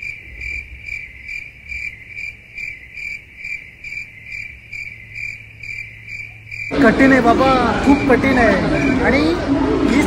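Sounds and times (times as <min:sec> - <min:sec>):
cricket chirping trill: 0:00.0 - 0:08.9.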